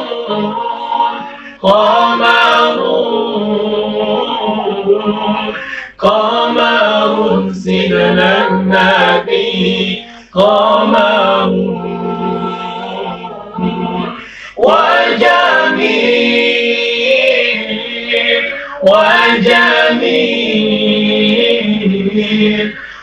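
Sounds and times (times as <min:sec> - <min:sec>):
men singing without instruments: 0:00.0 - 0:23.0.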